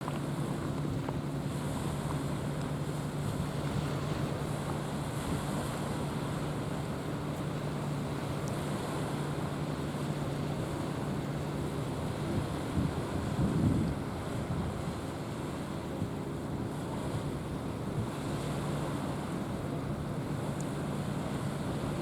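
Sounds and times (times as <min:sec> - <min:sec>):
wind buffeting microphone: 0:00.0 - 0:07.4, 0:10.5 - 0:22.0
ship engine droning: 0:00.0 - 0:22.0
waves washing: 0:00.0 - 0:22.0.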